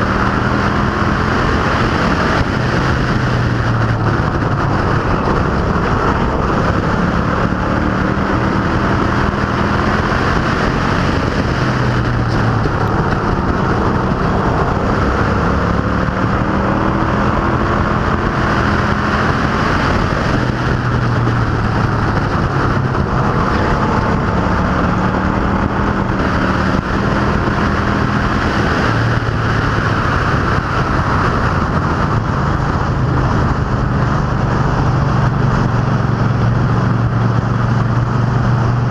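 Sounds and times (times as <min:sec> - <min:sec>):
race car engines passing: 0:00.0 - 0:38.9.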